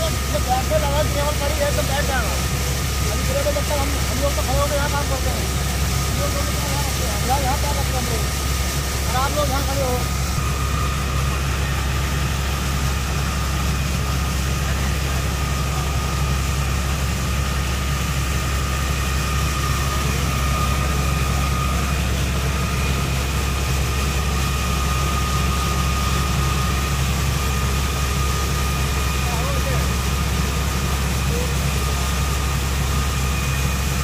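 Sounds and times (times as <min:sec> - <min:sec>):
heavy engine droning: 0:00.0 - 0:34.0
high whine: 0:00.0 - 0:34.0
water jet gushing: 0:00.0 - 0:34.0.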